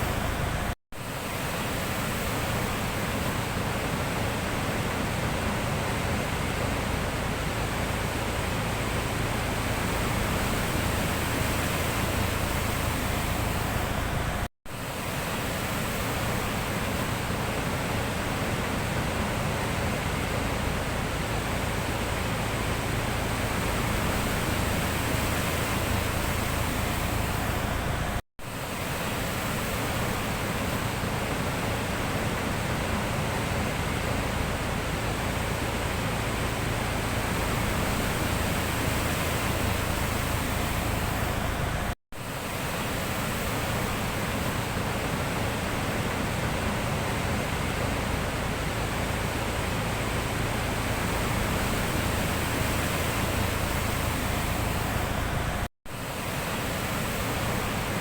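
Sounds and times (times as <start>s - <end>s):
sea surf rushing: 0.0s - 58.0s.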